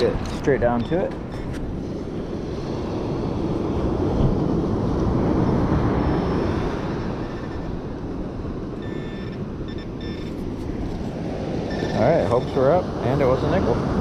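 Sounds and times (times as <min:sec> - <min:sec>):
storm surf rushing: 0:00.0 - 0:14.0
wind: 0:00.0 - 0:14.0.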